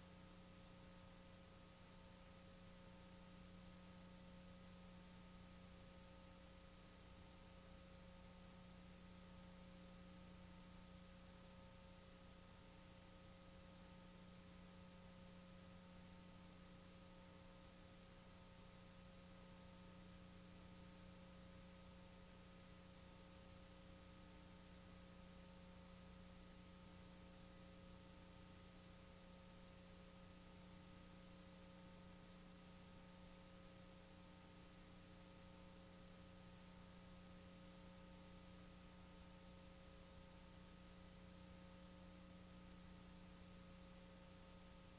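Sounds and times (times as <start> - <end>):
faint electrical hum: 0.0 - 44.9.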